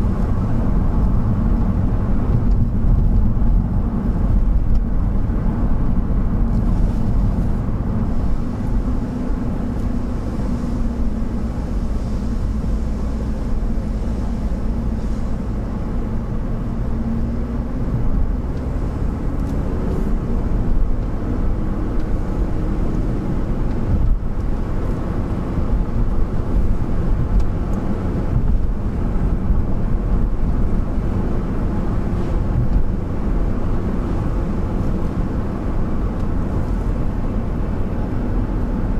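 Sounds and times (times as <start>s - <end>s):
vehicle engine and tyre rumble: 0.0s - 38.9s.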